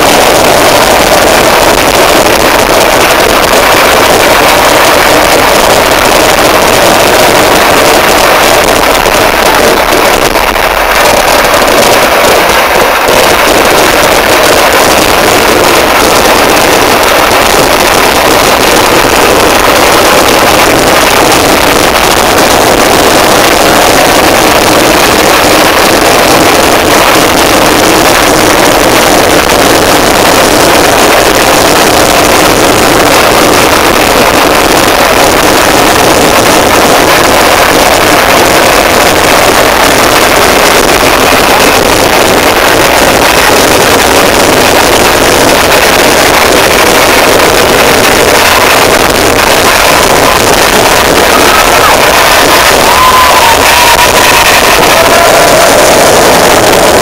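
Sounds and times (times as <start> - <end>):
firecrackers exploding: 0.0 - 57.0.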